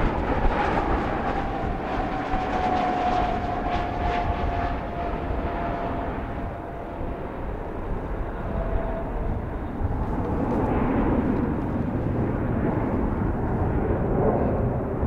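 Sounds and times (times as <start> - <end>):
jet climbing away: 0.0 - 15.0.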